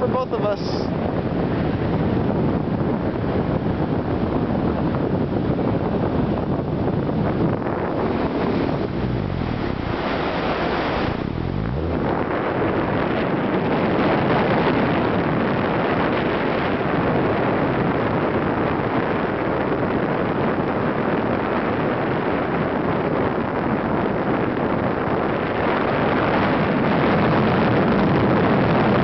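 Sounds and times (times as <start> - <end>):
low wind buffeting: 0.0 - 29.0
wind rushing over microphone: 0.0 - 29.0.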